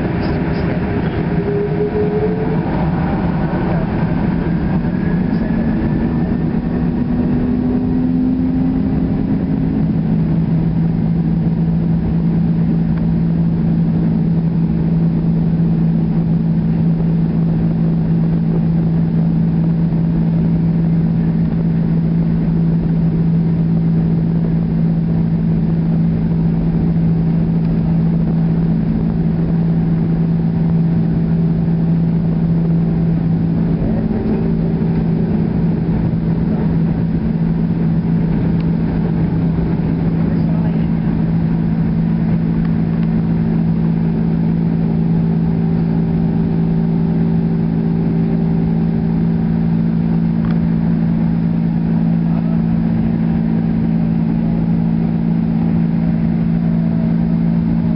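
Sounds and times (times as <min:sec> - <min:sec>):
aircraft rolling on runway rumble: 0:00.0 - 0:57.9
jet engines droning: 0:00.0 - 0:57.9.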